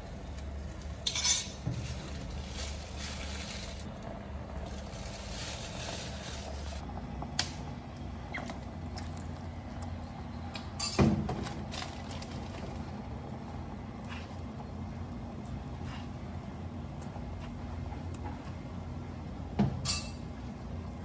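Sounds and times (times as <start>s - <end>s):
broth boiling in a pot: 0.0s - 21.0s.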